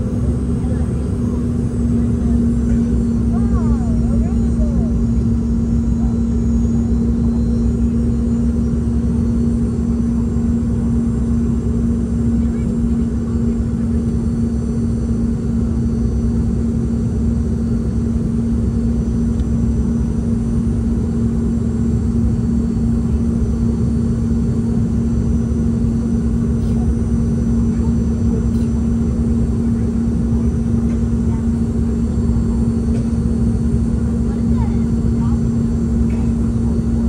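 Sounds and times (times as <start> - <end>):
airplane cabin drone: 0.0 - 37.0.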